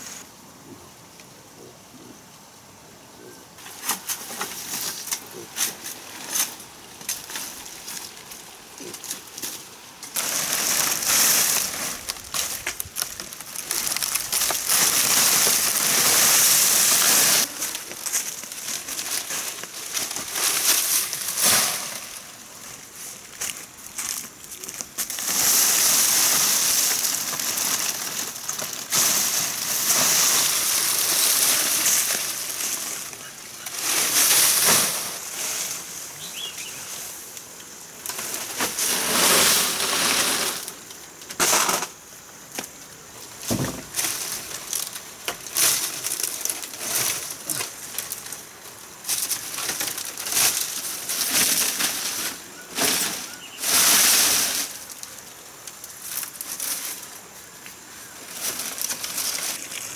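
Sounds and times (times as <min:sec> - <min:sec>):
rustling: 0:03.2 - 0:59.9.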